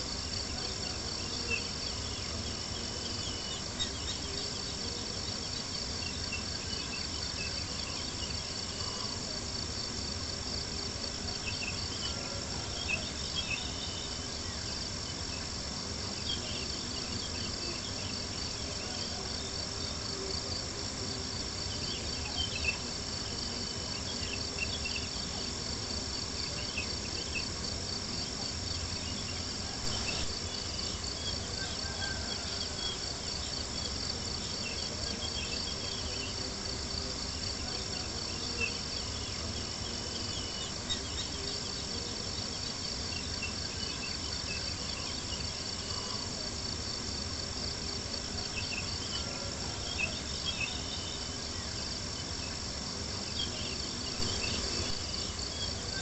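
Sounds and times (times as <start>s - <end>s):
crickets chirping: 0.0s - 56.0s
low even hiss: 0.0s - 56.0s.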